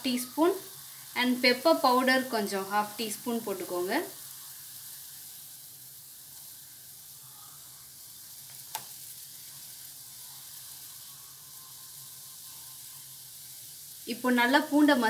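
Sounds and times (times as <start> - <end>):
liquid boiling in a pan: 0.0 - 15.0.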